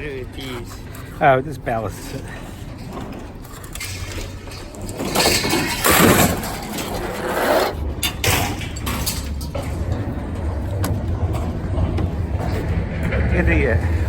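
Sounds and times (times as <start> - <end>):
engine rumble: 0.0 - 14.0
scrap metal scraping and clanking: 0.0 - 14.0.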